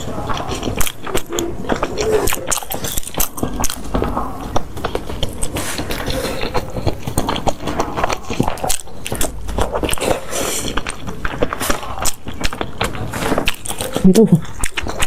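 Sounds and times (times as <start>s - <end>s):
person biting and chewing: 0.0s - 15.0s.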